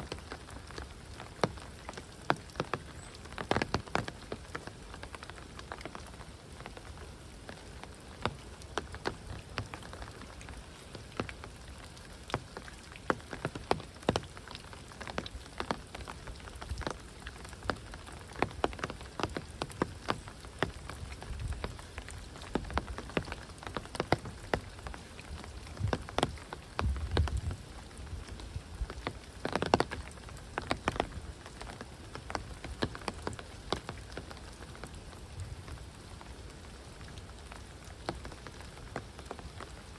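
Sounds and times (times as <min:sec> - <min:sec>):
close drips ticking: 0:00.0 - 0:36.0.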